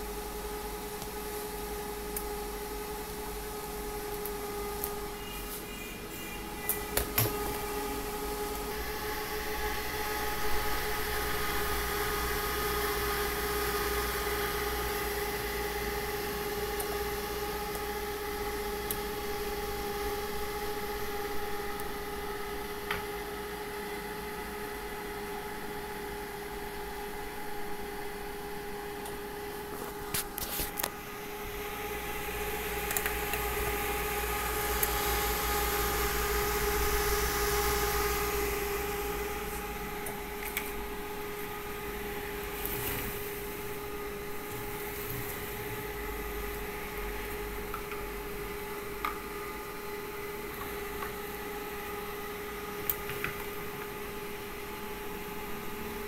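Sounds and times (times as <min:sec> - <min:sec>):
electric motor hum: 0:00.0 - 0:56.0.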